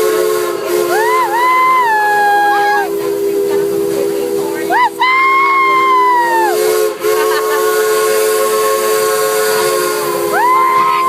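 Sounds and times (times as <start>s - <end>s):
steam hiss: 0.0s - 11.0s
steam locomotive whistle: 0.0s - 11.0s.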